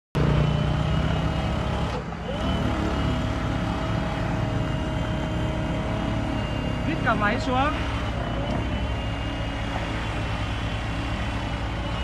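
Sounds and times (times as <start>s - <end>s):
excavator running: 0.2s - 12.0s.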